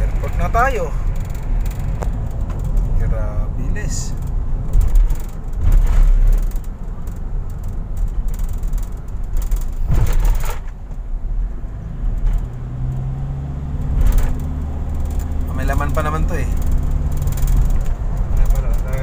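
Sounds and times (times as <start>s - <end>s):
car driving fast on road: 0.0s - 19.0s.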